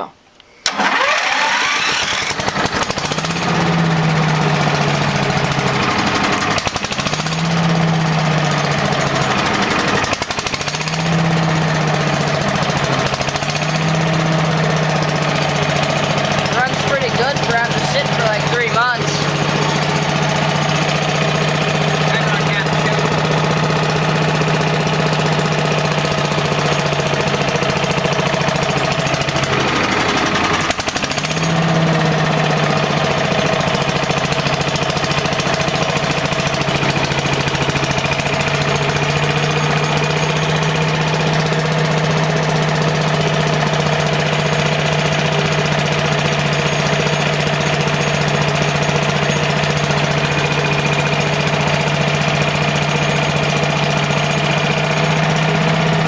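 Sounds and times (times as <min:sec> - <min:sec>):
lawn vacuum engine running: 0:00.6 - 0:56.0.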